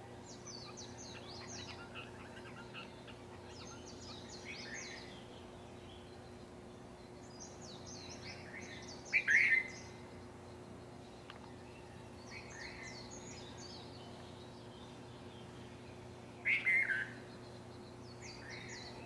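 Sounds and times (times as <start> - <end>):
faint steady hum: 0.0 - 19.0
songbirds chirping: 0.0 - 19.0
lower bird call: 0.3 - 19.0.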